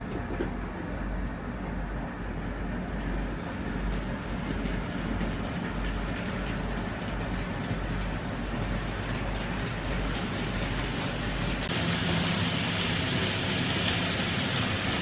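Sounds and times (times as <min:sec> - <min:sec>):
model train running with low hum: 0:00.0 - 0:15.0.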